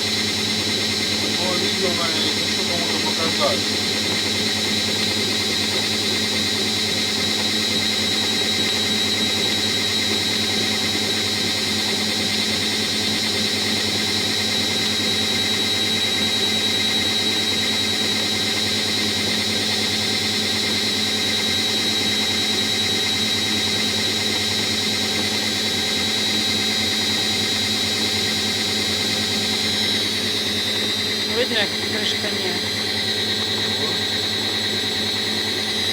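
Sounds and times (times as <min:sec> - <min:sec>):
washing machine motor hum: 0:00.0 - 0:35.9.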